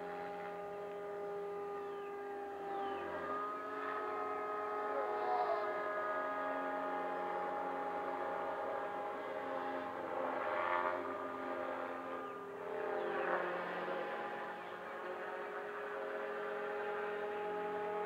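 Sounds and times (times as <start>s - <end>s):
model airplane motor whine: 0.0s - 18.0s
steady multi-tone whine: 0.0s - 18.0s.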